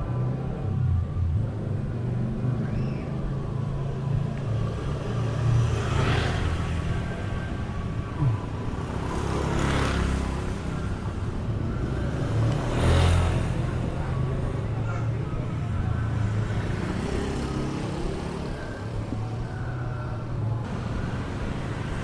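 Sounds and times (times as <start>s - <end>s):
traffic engine rumble: 0.0s - 22.0s
vehicles passing close: 0.0s - 22.0s.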